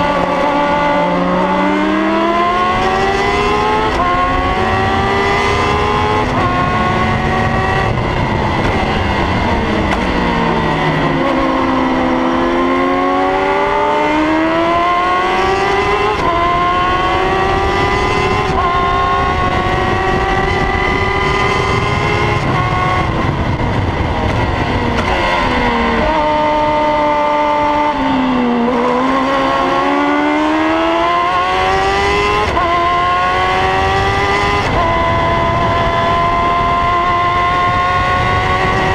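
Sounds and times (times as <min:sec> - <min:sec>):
racing car engine: 0:00.0 - 0:38.9.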